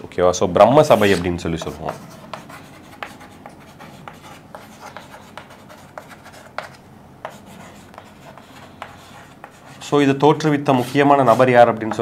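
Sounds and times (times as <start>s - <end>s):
chalk tapping and scratching: 0.8s - 12.0s.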